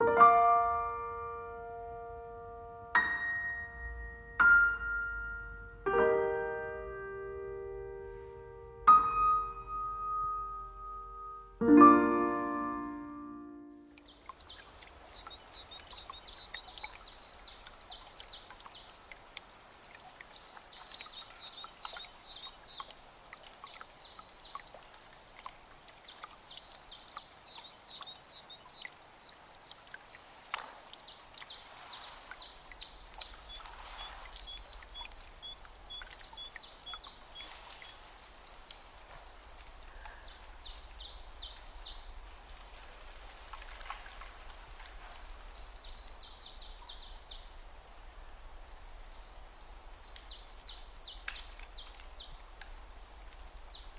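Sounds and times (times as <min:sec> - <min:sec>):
bird call of evenly spaced notes: 0:00.0 - 0:42.3, 0:44.8 - 0:53.9
soft outdoor hiss: 0:00.0 - 0:53.9
songbirds chirping: 0:10.6 - 0:53.9.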